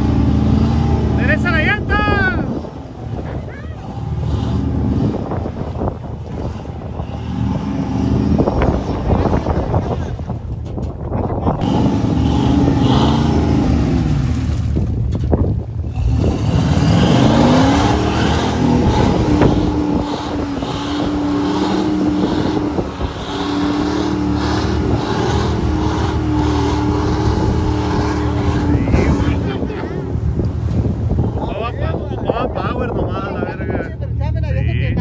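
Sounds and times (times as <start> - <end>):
engine revving: 0.0 - 10.1, 11.5 - 15.1, 15.8 - 32.4.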